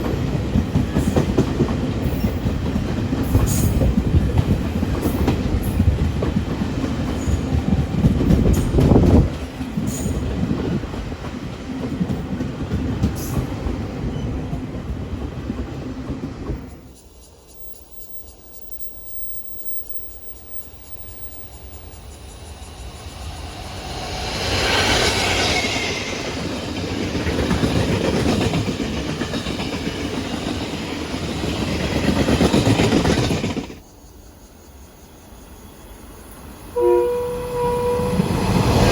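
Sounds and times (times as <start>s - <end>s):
train wheels clicking on rails: 0.0s - 33.9s.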